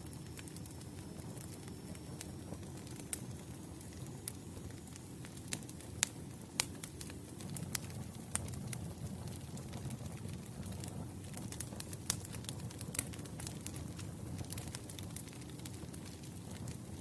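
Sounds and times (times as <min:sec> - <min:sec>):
campfire flames rumbling: 0:00.0 - 0:17.0
fire crackles and pops: 0:00.0 - 0:17.0.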